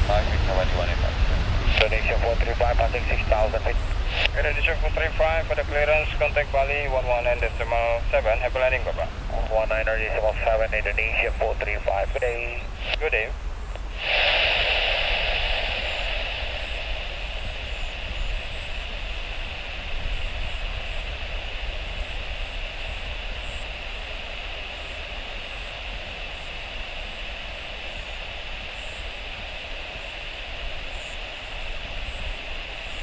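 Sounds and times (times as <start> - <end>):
jet engines roaring on takeoff: 0.0 - 33.0.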